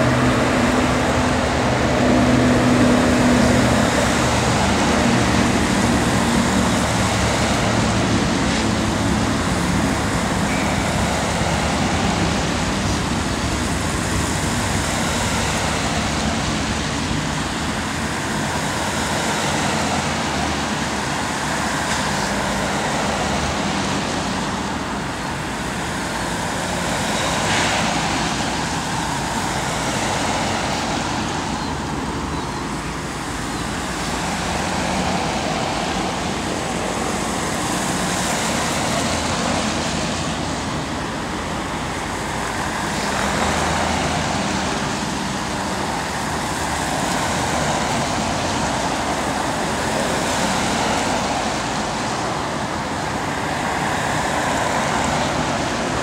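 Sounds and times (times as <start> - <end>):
car engines running: 0.0 - 56.0
tyres hissing on wet pavement: 0.0 - 56.0.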